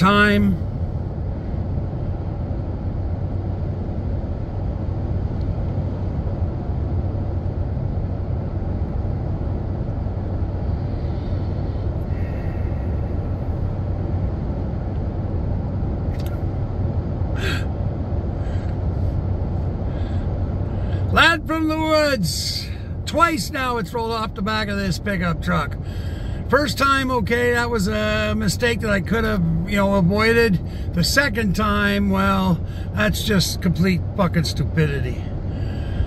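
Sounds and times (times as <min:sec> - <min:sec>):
truck engine drone: 0:00.0 - 0:36.0.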